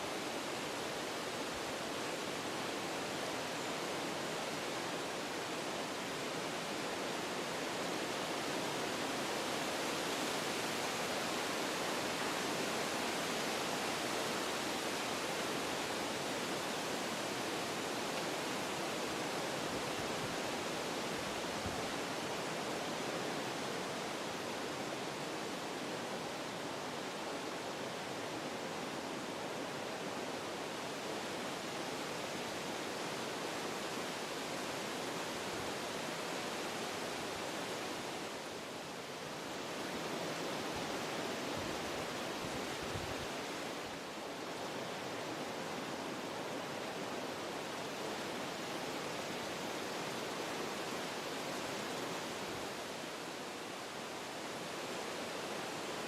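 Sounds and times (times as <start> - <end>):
wind blowing through trees: 0.0 - 56.0.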